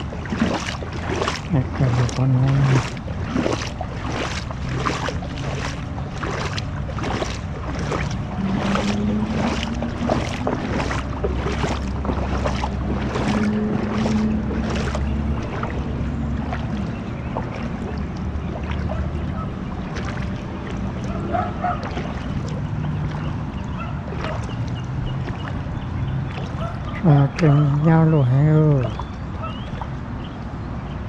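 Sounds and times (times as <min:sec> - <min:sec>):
steady low rumble: 0:00.0 - 0:29.4.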